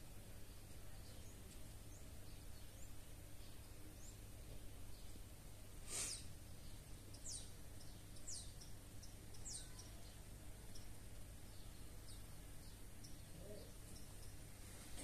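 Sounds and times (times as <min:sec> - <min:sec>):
low steady hum: 0:00.0 - 0:15.0
small bird chirping: 0:00.4 - 0:15.0.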